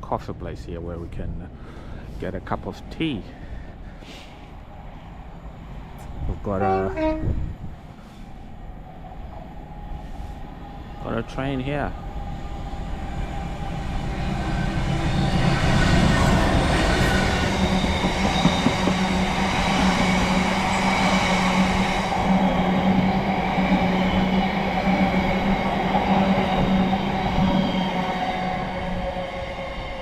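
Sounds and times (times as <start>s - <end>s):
diesel train engine hum: 0.0s - 30.0s.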